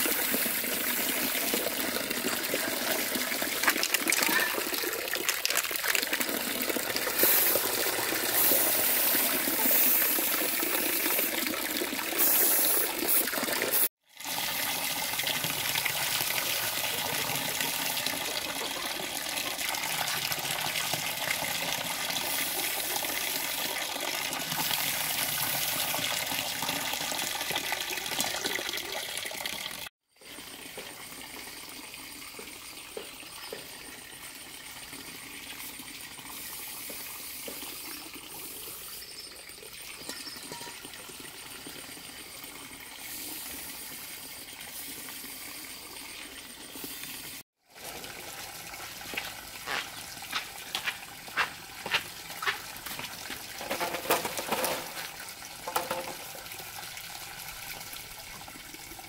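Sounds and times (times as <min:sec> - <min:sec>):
water running and gushing: 0:00.0 - 0:59.0.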